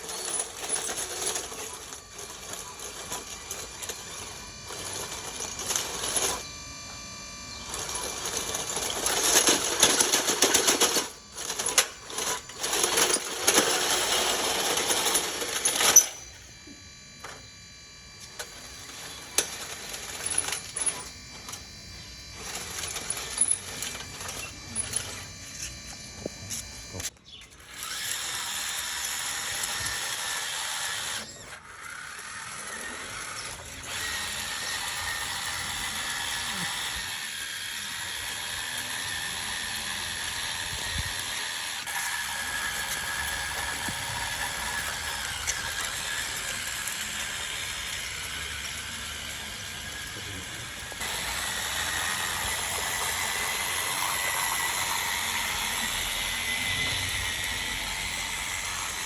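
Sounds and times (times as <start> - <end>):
toy truck motor whirring: 0.0 - 59.0.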